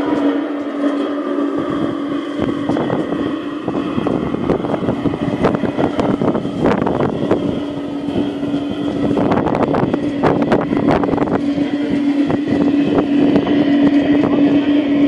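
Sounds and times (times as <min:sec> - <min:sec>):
model train motor hum: 0:00.0 - 0:15.0.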